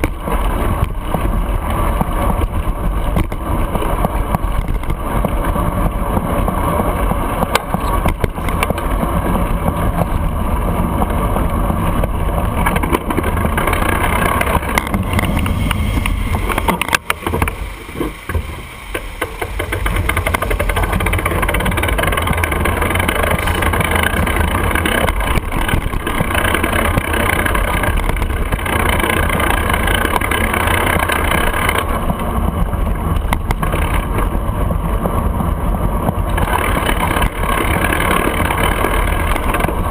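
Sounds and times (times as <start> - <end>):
bicycle tyre noise: 0.0 - 39.9
city traffic: 0.0 - 39.9
wind rushing over microphone: 0.0 - 39.9.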